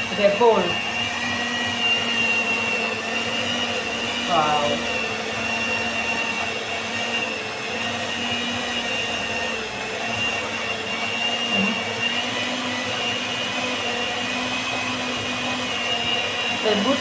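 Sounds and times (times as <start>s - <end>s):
stand mixer motor whining: 0.0s - 17.0s.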